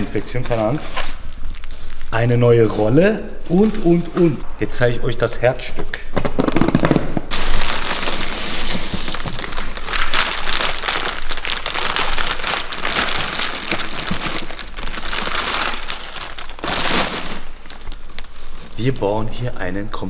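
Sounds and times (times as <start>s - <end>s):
plastic bags crinkling: 0.0s - 4.4s, 7.3s - 19.5s.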